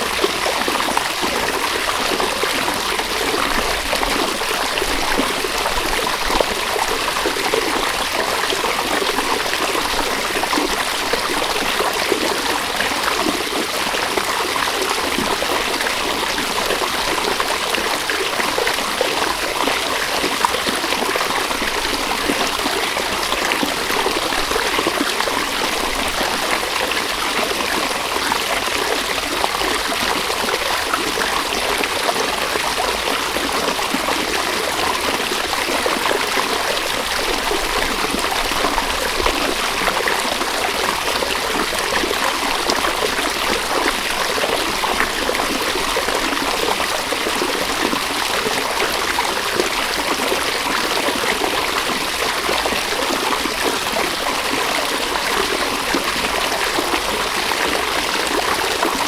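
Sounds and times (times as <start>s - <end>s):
river water babbling over stones: 0.0s - 59.0s.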